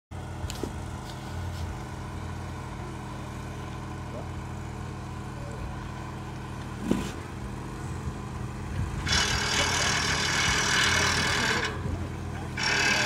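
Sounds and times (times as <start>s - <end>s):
machinery engine humming: 0.1s - 13.0s.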